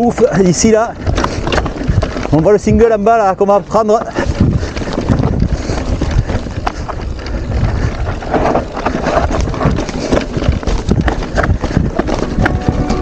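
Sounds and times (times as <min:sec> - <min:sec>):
tyre rumble: 0:00.0 - 0:03.1, 0:03.7 - 0:13.0
bike rattling clicks and knocks: 0:00.0 - 0:13.0
wind buffeting microphone: 0:00.0 - 0:13.0.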